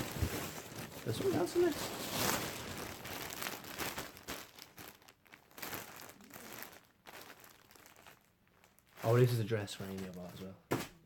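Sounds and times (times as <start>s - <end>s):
packaging rustling and crinkling: 0.0s - 10.8s.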